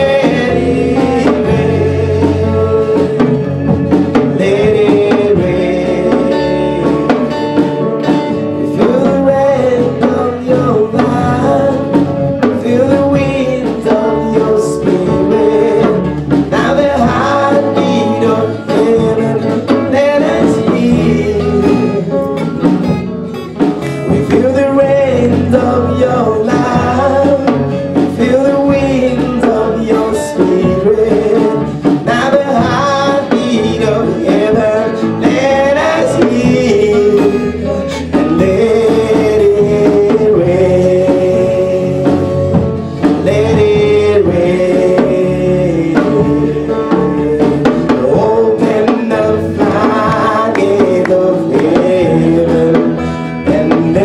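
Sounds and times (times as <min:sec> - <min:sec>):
instrumental accompaniment: 0:00.0 - 0:54.0
man singing: 0:00.0 - 0:54.0.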